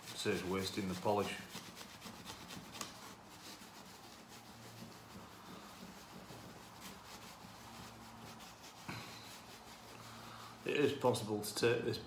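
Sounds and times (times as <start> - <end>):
cloth rubbing on metal: 0.0 - 12.0.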